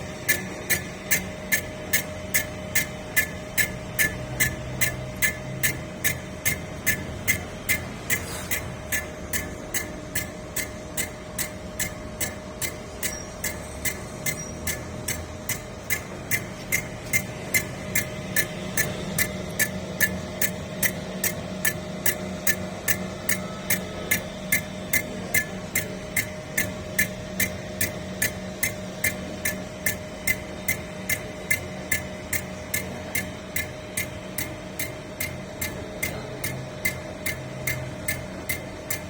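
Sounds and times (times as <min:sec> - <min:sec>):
machine motor hum: 0:00.0 - 0:39.0
sharp even ticking: 0:00.3 - 0:39.0.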